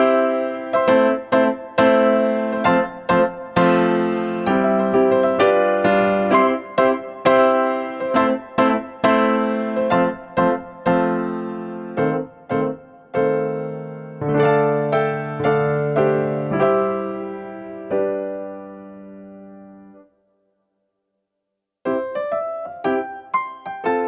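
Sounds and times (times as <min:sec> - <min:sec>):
electric piano music: 0:00.0 - 0:20.1, 0:21.9 - 0:24.0.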